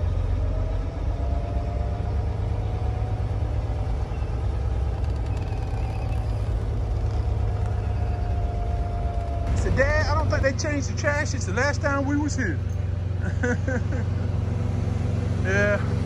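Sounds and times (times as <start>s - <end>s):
truck diesel engine rumble: 0.0s - 16.0s.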